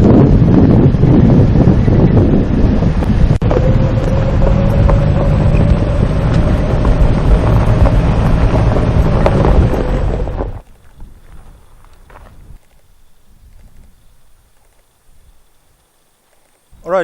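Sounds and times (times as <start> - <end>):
off-road vehicle running: 0.0 - 14.8
steady whine: 0.0 - 15.8
wind buffeting microphone: 0.0 - 15.8.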